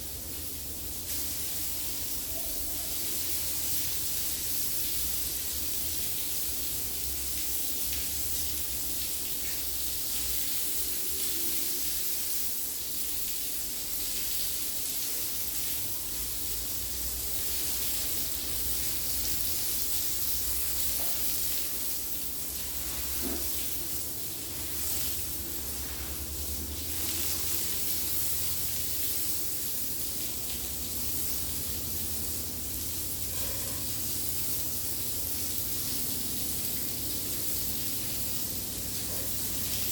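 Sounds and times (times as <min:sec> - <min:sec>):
spraying water hiss: 0:00.0 - 0:39.9.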